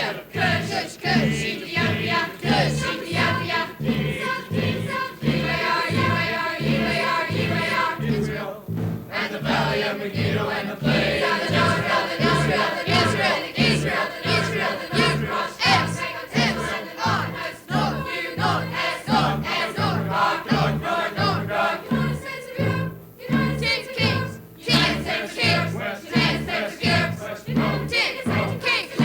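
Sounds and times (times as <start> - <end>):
choir singing with band: 0.0 - 29.0
pulsing bass beat: 0.4 - 29.0.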